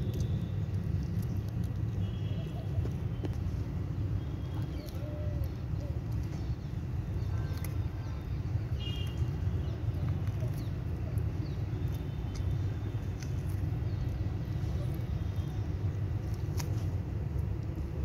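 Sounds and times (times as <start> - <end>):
low background rumble: 0.0 - 18.0
tortoise chewing clicks: 0.0 - 18.0.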